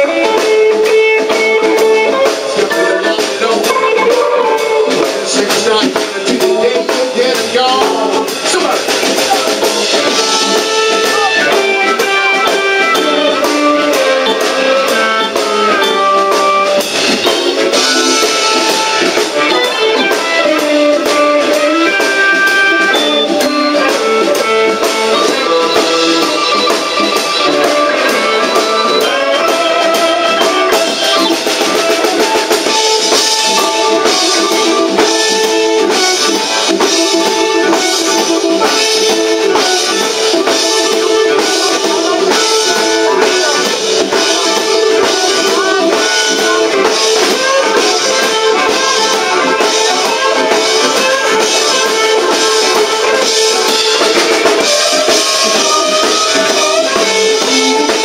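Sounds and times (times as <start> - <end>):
electric guitar: 0.0 - 58.0
harmonica: 0.0 - 58.0
steady drum beat: 0.0 - 58.0.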